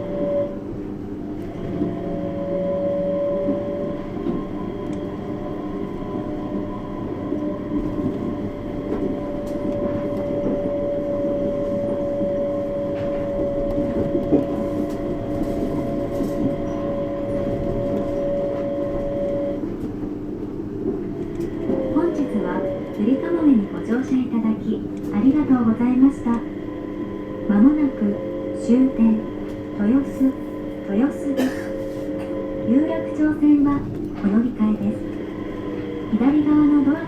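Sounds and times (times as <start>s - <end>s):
train rumble: 0.0s - 37.0s.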